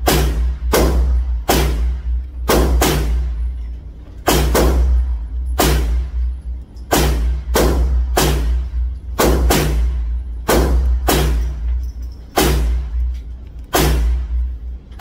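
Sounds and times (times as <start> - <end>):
gunshots at indoor range: 0.0 - 15.0.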